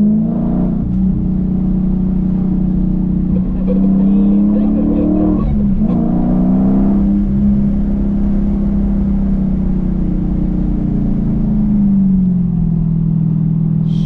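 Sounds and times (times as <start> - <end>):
car exhaust engine note: 0.0 - 14.0.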